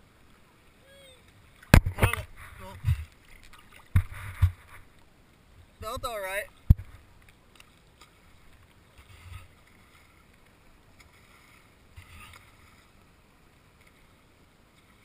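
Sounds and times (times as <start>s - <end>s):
soft splashy swells: 0.0s - 15.0s
water lapping and sloshing: 0.0s - 15.0s.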